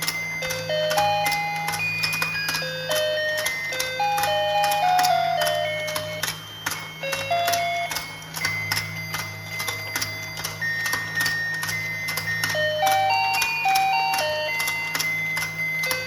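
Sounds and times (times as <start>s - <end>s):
regular clicking: 0.0s - 16.0s
toy motor hum: 0.0s - 16.0s.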